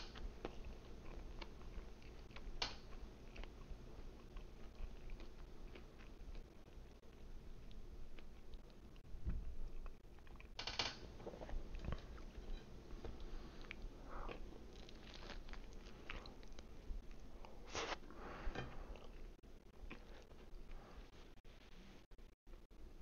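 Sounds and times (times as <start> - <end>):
person chewing food: 0.0 - 21.3.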